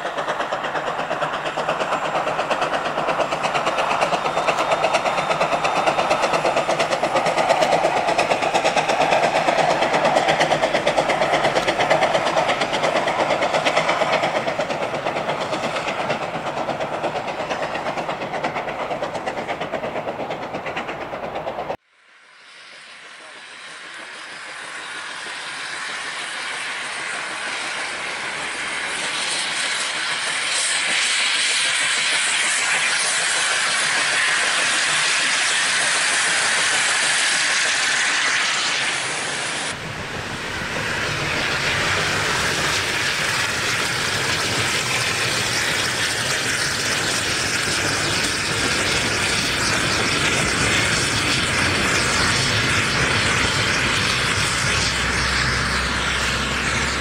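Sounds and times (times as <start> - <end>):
carriages rumbling on rails: 0.0 - 21.8, 22.5 - 57.0
steam locomotive hissing: 0.0 - 57.0.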